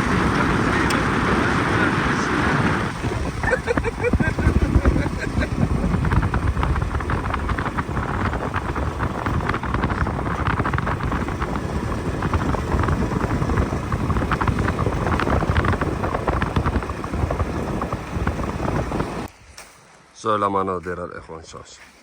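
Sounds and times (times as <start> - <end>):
low vehicle rumble: 0.0 - 19.3
wind buffeting microphone: 0.0 - 19.3.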